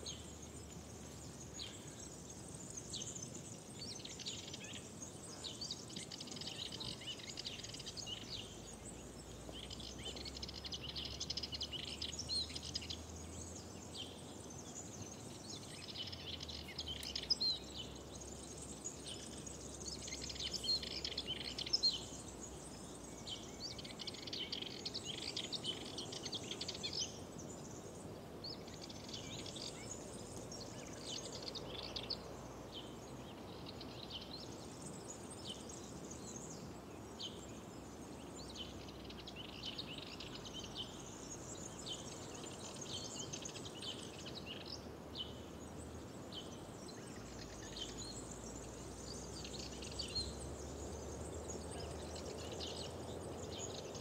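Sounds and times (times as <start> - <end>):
faint background noise: 0.0 - 54.0
songbirds chirping: 0.0 - 54.0.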